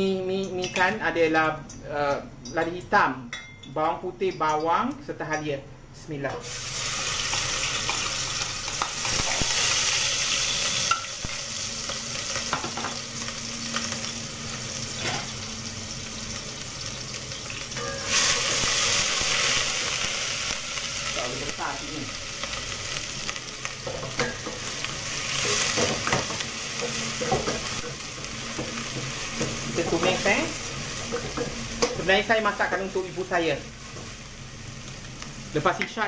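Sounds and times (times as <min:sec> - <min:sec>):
spice paste sizzling in oil: 0:06.4 - 0:36.0.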